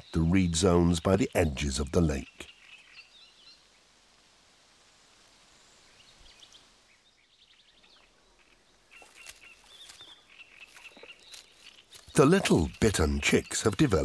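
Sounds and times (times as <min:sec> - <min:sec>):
faint bird chirps: 0:00.0 - 0:03.9, 0:04.9 - 0:14.0.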